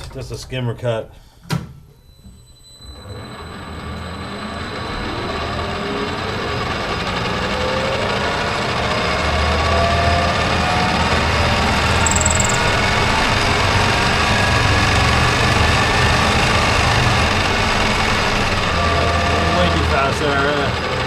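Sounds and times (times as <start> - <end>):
metal lathe spindle whine: 2.6 - 21.0.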